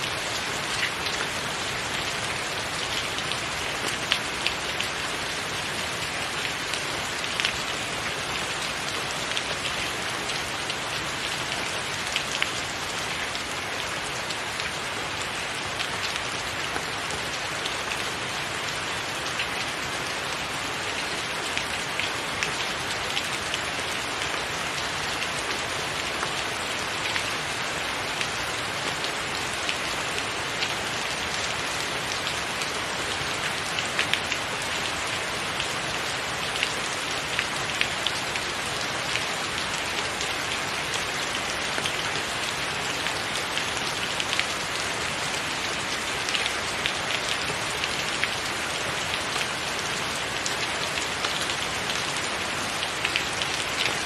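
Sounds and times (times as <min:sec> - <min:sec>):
rain on a tiled roof: 0:00.0 - 0:54.0.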